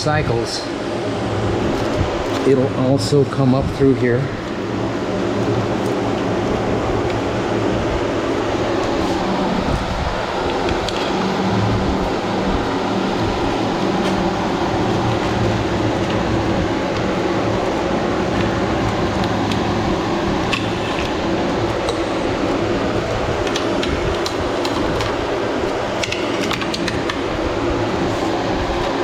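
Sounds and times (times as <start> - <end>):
electric fan humming: 0.0 - 29.0.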